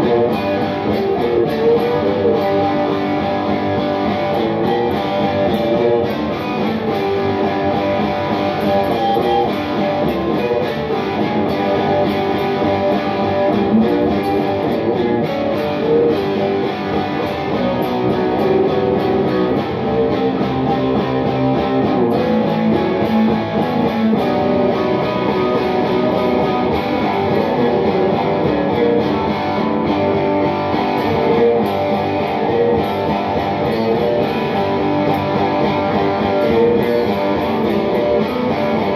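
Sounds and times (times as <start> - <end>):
electric guitar strummed and picked: 0.0 - 38.9.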